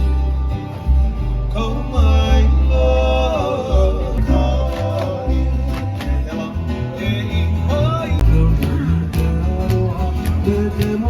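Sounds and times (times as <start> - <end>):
upbeat song with guitar: 0.0 - 11.0.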